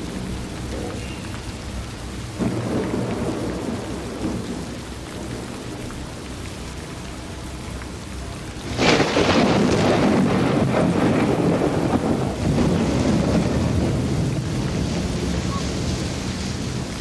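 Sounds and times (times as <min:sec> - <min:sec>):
heavy rain falling: 0:00.0 - 0:17.0
thunder rumbling: 0:00.0 - 0:17.0.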